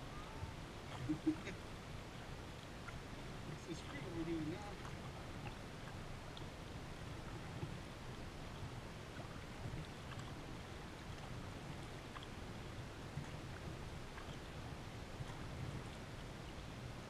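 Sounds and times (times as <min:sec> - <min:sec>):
faint water drips: 0:00.0 - 0:17.0
water rumbling around kayak: 0:00.0 - 0:17.0.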